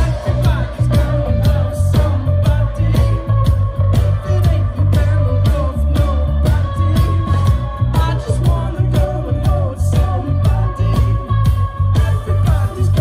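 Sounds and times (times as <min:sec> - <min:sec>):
bass: 0:00.0 - 0:13.0
electric guitars: 0:00.0 - 0:13.0
person singing: 0:00.0 - 0:13.0
steady drum beat: 0:00.0 - 0:13.0.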